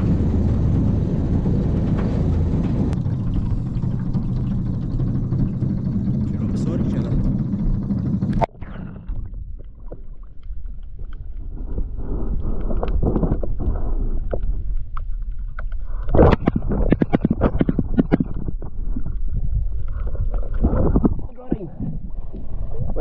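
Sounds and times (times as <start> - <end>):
water sloshing while wading: 0.0 - 23.0.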